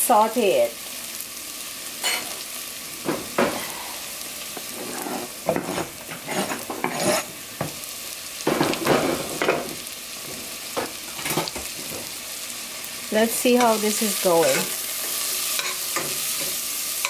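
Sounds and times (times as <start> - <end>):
loud sizzle bursts: 0.0 - 17.0
vegetables sizzling in oil: 0.0 - 17.0.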